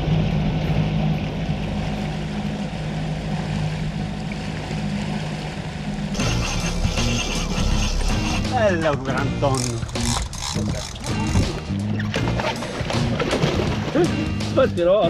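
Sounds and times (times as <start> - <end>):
outboard motor droning: 0.0 - 15.0
rushing water: 0.0 - 15.0
wind: 0.0 - 15.0.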